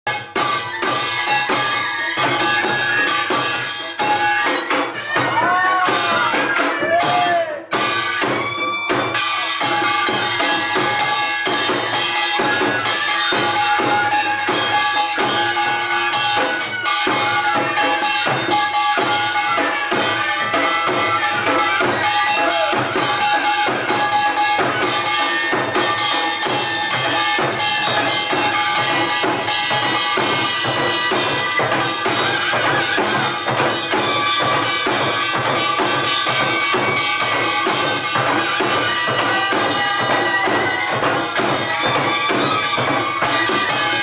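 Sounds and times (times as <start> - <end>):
barrel drum fast rhythm: 0.1 - 44.0.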